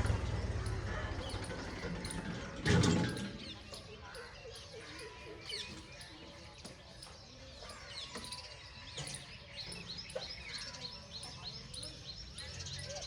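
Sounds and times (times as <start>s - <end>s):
birds chirping: 0.0s - 13.0s
faint outdoor background noise: 0.0s - 13.0s.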